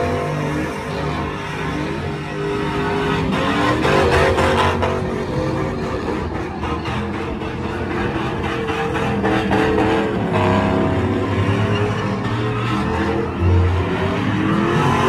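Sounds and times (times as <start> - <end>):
tires spinning: 0.0 - 15.0
truck engine revving: 0.0 - 15.0.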